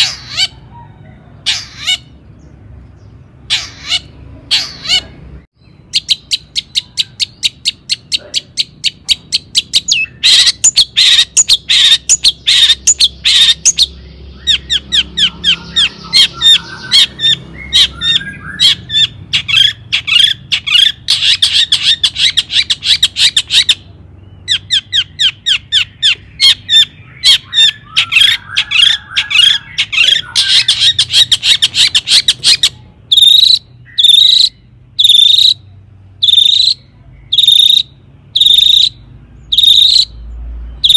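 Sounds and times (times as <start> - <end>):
shrike singing: 0.0 - 40.2.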